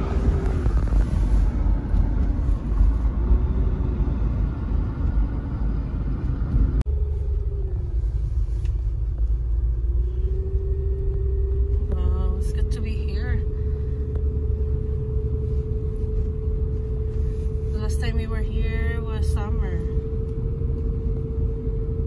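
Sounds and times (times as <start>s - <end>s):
car road noise rumble: 0.0s - 22.0s.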